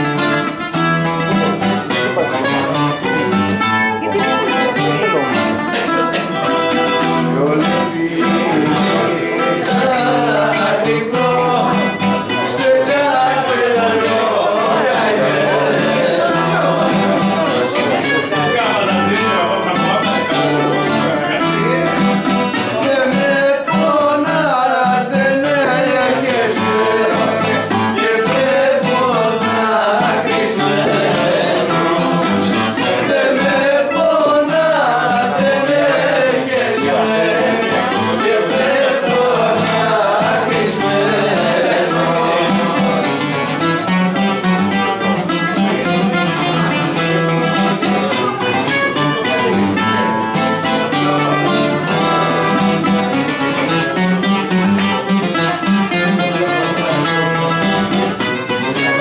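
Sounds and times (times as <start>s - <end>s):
acoustic guitar: 0.0s - 59.0s
bouzouki: 0.0s - 59.0s
voices singing: 0.0s - 59.0s.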